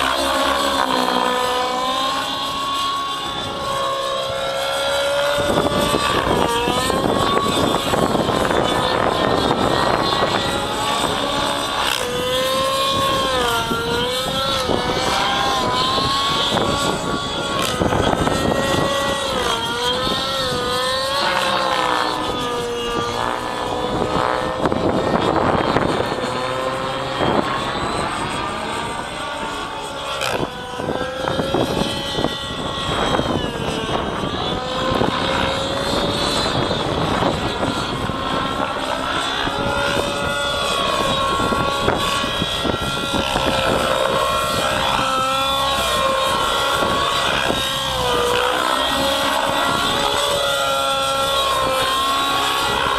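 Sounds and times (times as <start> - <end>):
rc helicopter engine and rotor: 0.0 - 52.9.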